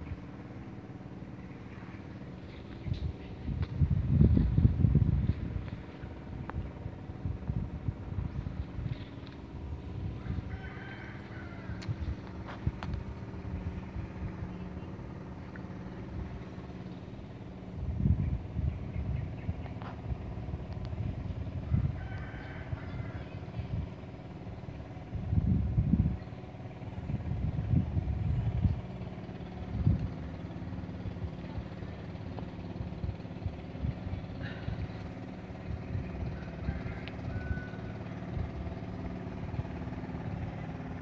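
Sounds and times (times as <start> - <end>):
low engine drone: 0.0 - 41.0
wind buffeting microphone: 1.2 - 41.0.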